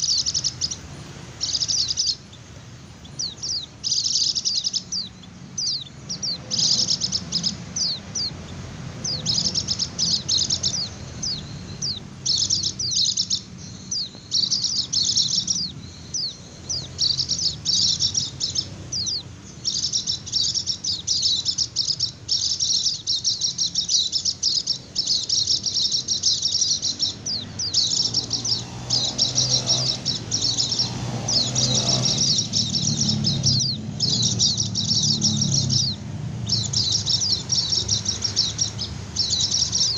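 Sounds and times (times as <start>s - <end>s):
bird twittering trills: 0.0s - 39.9s.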